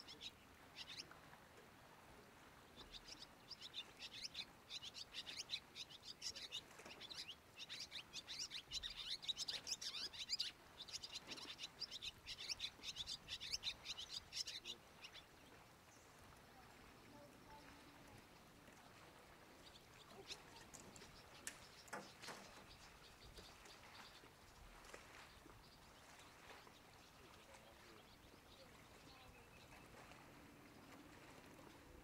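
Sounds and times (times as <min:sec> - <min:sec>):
birds chirping: 0:00.0 - 0:01.2, 0:02.7 - 0:31.9.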